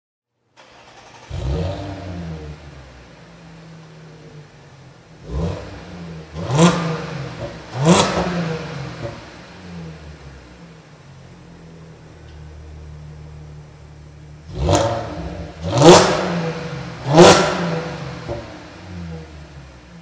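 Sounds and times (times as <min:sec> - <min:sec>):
car engine starting and revving: 0:00.6 - 0:20.0.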